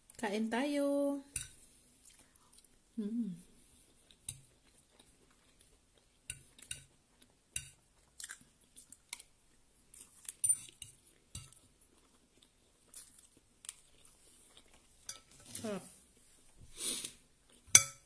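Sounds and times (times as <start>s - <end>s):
person chewing food: 1.5s - 2.9s, 3.5s - 17.8s.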